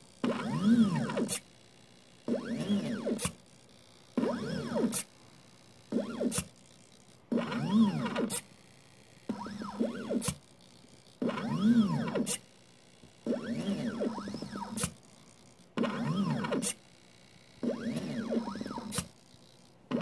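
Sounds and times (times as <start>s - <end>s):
stepper motors whining: 0.2s - 1.5s, 2.2s - 3.4s, 4.1s - 6.6s, 7.3s - 10.5s, 11.2s - 20.0s.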